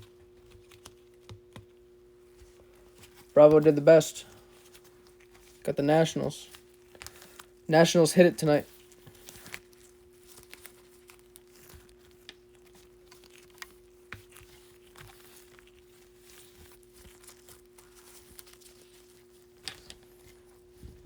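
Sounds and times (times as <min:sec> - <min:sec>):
faint steady hum: 0:00.0 - 0:21.0
trading cards rustling: 0:00.0 - 0:21.0.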